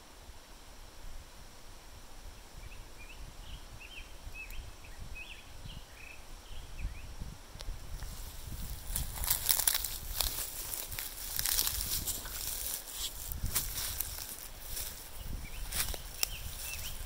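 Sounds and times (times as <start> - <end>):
songbird chirping: 2.3 - 17.0.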